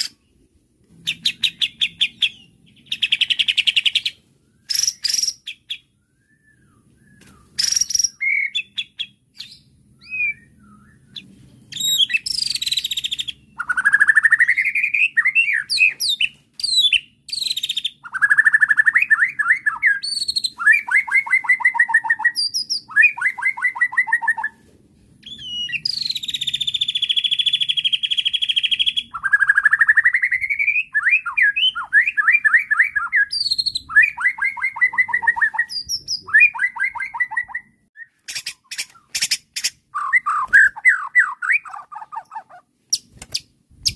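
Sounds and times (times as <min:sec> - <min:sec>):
bird singing whistled trills: 0:01.0 - 0:24.6, 0:25.2 - 0:42.4.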